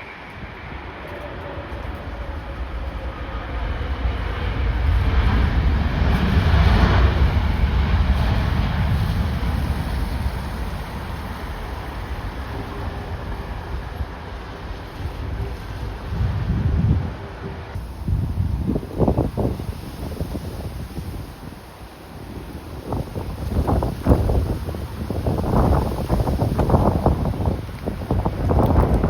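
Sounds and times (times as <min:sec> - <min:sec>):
jet airliner passing overhead: 0:00.0 - 0:29.0
wind buffeting microphone: 0:00.0 - 0:29.0.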